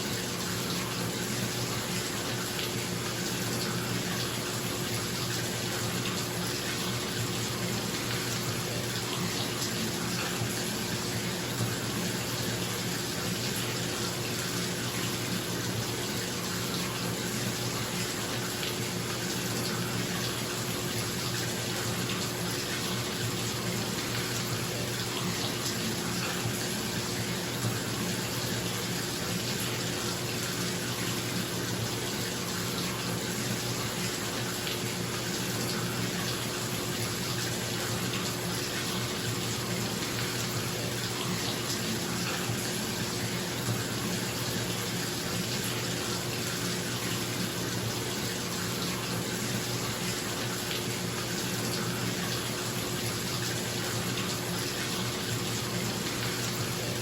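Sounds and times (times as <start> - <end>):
faucet water running into tub: 0.0 - 57.0.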